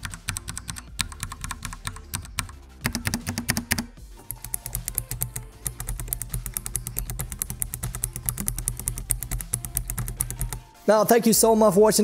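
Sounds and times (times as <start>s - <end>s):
fast typing on keyboard: 0.0s - 10.7s.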